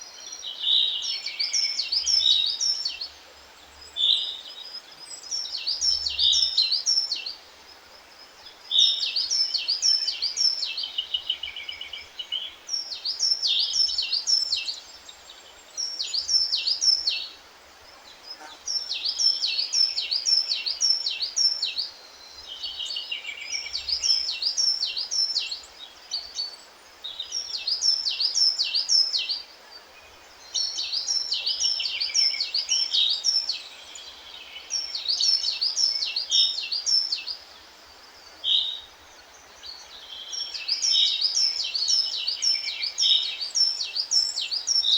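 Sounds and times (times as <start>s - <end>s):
faint steady background noise: 0.0s - 44.9s
songbird singing: 0.0s - 44.9s.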